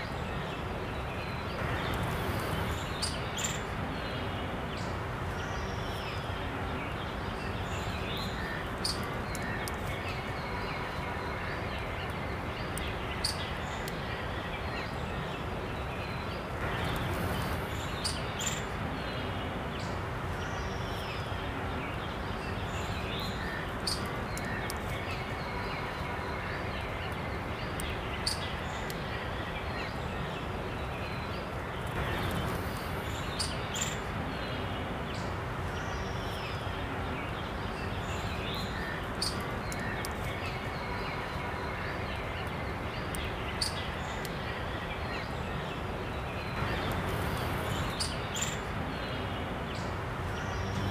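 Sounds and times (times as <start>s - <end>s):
steady outdoor hiss: 0.0s - 50.9s.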